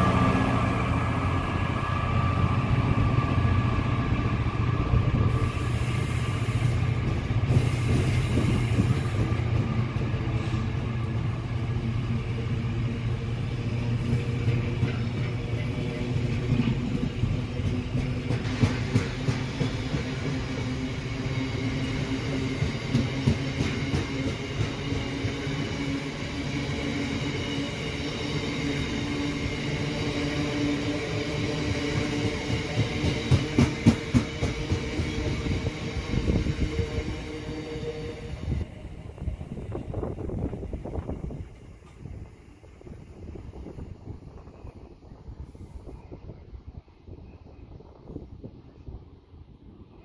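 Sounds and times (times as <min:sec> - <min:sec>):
train running past: 0:00.0 - 0:50.0.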